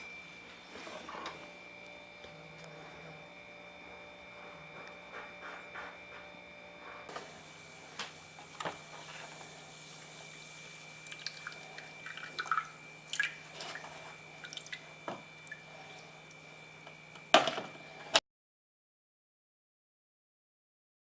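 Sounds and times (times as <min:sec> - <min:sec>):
steady hum: 0:00.0 - 0:18.2.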